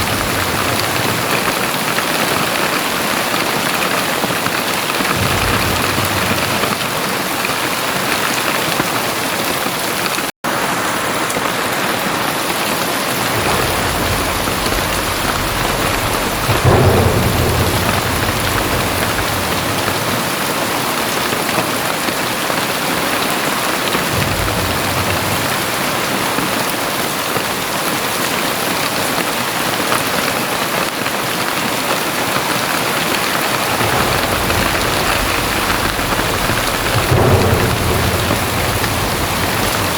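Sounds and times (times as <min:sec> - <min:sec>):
thunder rumbling: 0:00.0 - 0:10.2, 0:12.7 - 0:28.8, 0:32.1 - 0:39.9
heavy rain pouring: 0:00.0 - 0:39.9.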